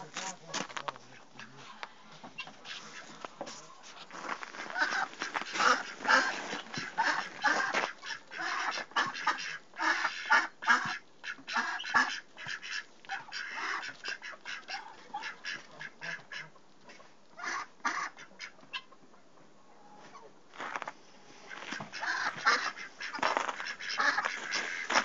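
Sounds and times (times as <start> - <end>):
ducks quacking: 0.0 - 20.4, 21.4 - 25.0.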